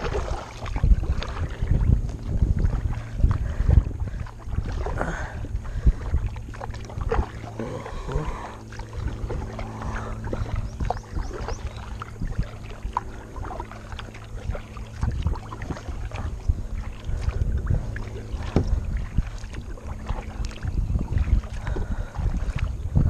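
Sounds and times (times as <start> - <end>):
low steady rumble: 0.0 - 23.0
paddle splashes: 0.0 - 23.0.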